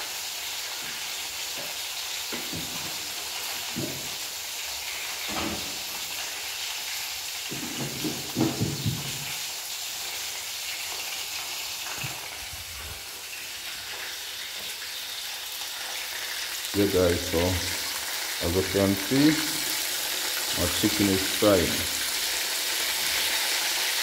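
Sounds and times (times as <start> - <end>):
chicken deep-frying in oil: 0.0 - 24.0.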